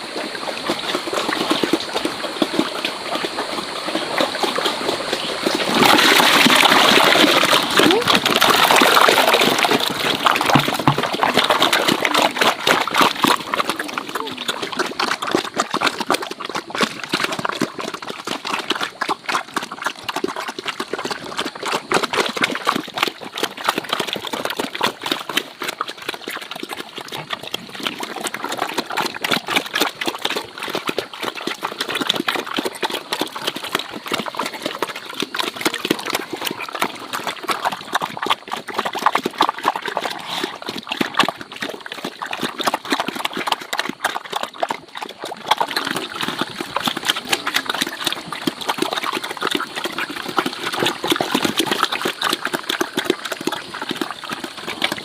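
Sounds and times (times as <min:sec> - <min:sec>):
pigs smacking and slurping feed: 0:00.0 - 0:55.0.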